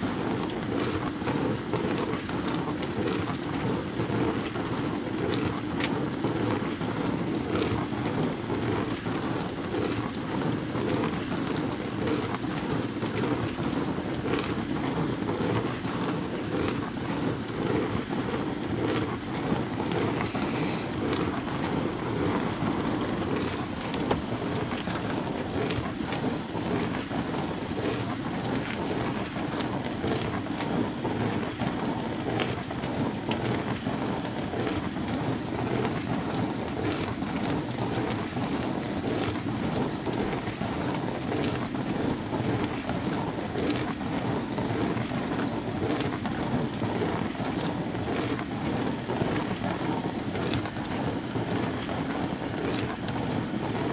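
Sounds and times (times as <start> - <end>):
splashes and clicks: 0.0 - 53.9
washing machine churning: 0.0 - 53.9.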